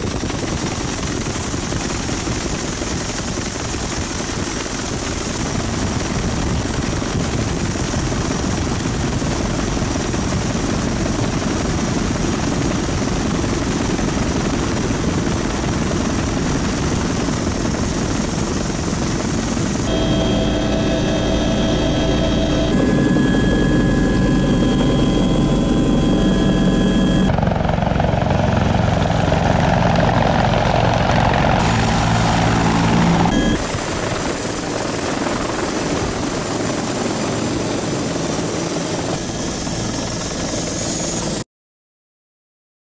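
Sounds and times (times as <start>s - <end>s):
helicopter turbine and rotor: 0.0s - 41.4s.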